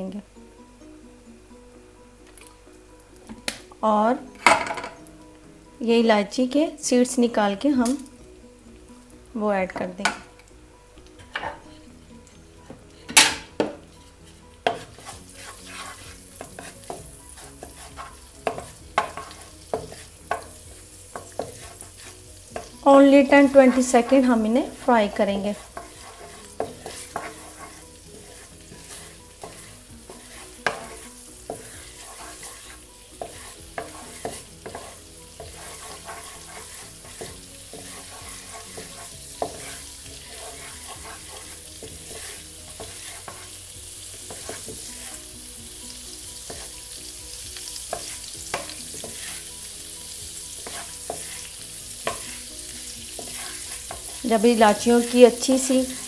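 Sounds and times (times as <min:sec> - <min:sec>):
seeds sizzling in pan: 0:00.0 - 0:56.0
spatula scraping and tapping pan: 0:04.4 - 0:05.1, 0:09.7 - 0:56.0.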